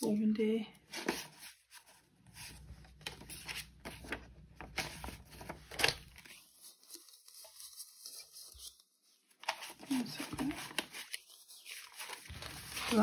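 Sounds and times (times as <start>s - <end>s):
paper banknotes rustling: 1.0s - 13.0s.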